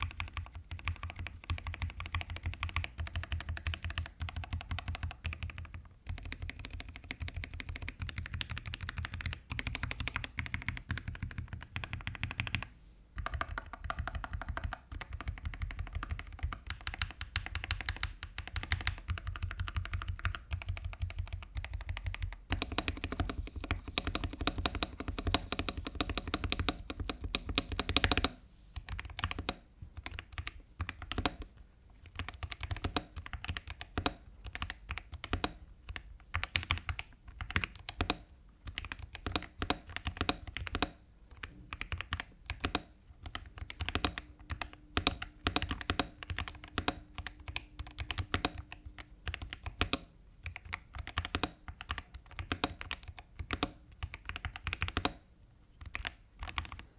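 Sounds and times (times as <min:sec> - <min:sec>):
mechanical keyboard typing: 0:00.0 - 0:56.9.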